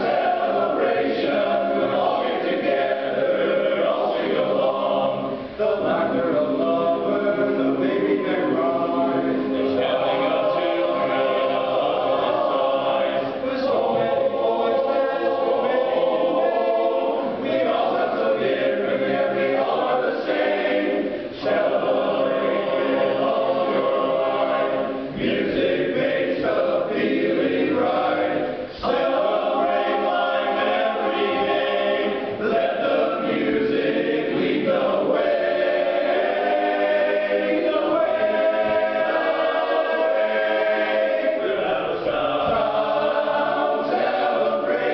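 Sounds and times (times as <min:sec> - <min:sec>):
men's chorus singing a cappella: 0:00.0 - 0:44.9.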